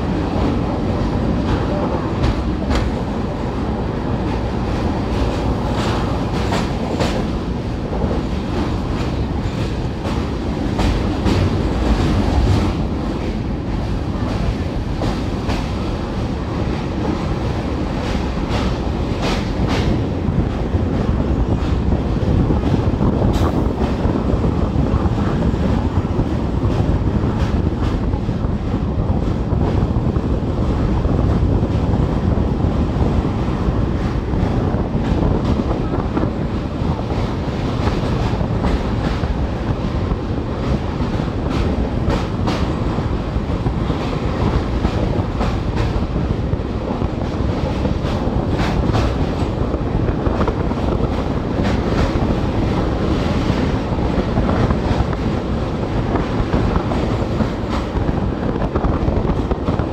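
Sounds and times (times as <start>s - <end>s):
track clicking: 0.0s - 59.9s
train wheels rumbling on rails: 0.0s - 59.9s.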